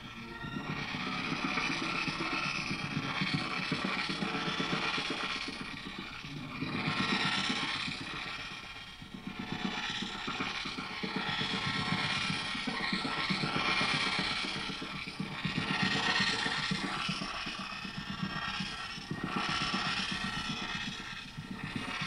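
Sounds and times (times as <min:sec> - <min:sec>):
stuttering granular electronic loop: 0:00.0 - 0:22.0.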